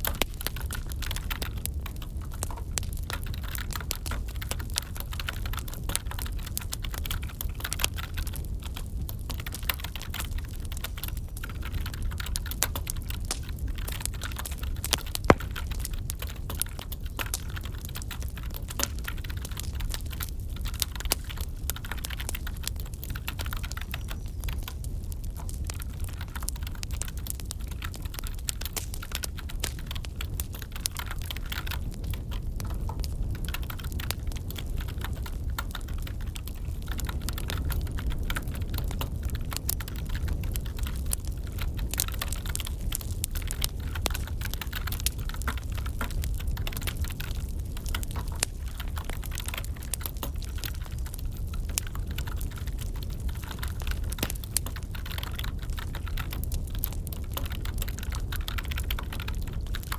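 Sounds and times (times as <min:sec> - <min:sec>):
crackling wood fire: 0:00.0 - 0:59.9.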